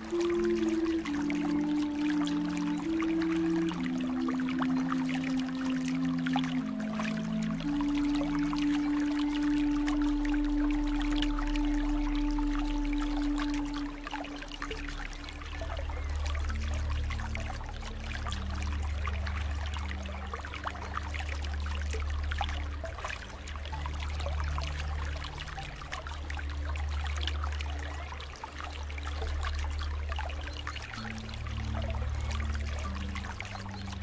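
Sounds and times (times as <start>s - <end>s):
soft background music: 0.0s - 34.0s
water trickling and pouring: 0.0s - 34.0s.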